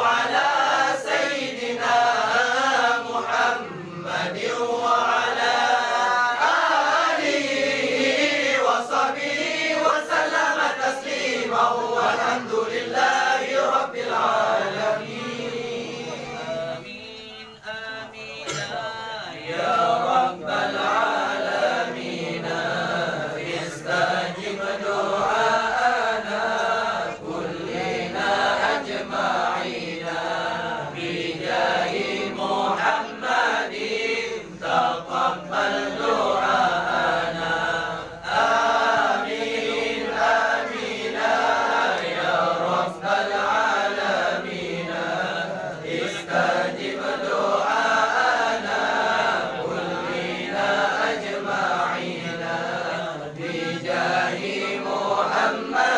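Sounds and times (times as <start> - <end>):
men chanting in unison: 0.0 - 55.9.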